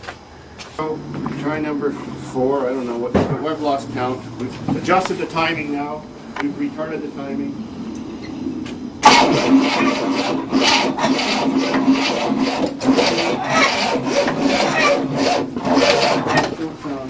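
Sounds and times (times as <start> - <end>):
car engine cranking and starting: 0.6 - 17.0
engine running roughly: 0.6 - 17.0.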